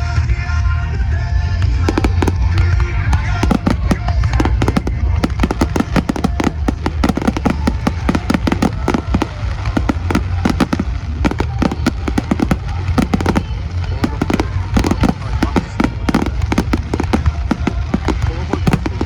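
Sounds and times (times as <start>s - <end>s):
fireworks bangs and crackles: 1.6s - 19.0s.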